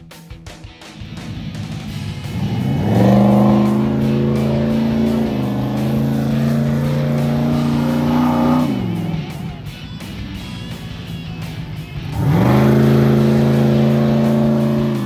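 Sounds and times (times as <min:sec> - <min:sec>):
buggy engine revving: 0:01.0 - 0:15.0.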